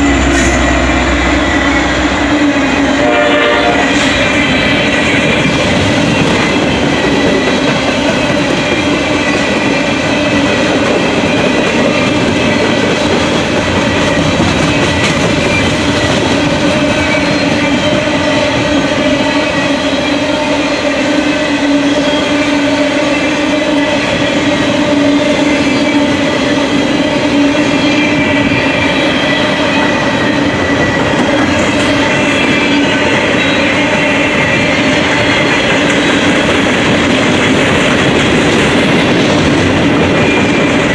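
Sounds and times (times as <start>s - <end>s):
freight train wheels rumbling on rails: 0.0s - 40.9s
ringing tone from train wheels: 0.0s - 40.9s.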